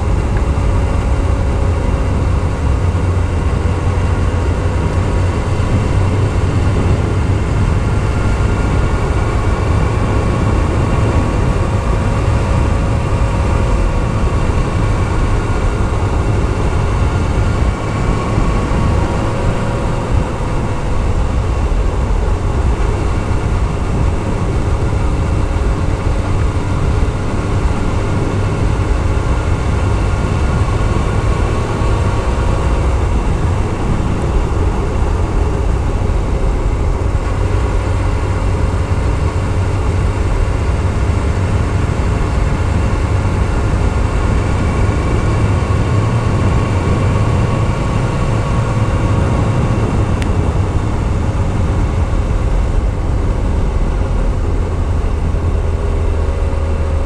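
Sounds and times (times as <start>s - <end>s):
motorcycle engine at speed: 0.0s - 57.0s
wind on microphone: 0.0s - 57.0s.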